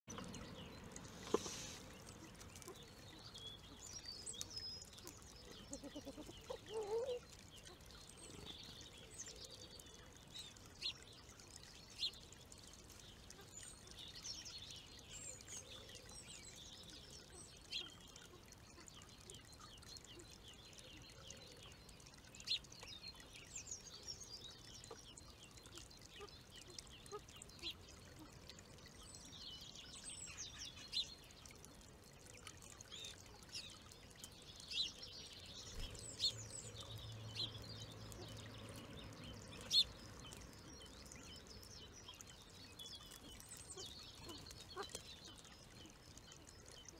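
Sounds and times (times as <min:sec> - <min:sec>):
small birds chirping: 0:00.0 - 0:46.9
water trickling into basin: 0:00.0 - 0:46.9.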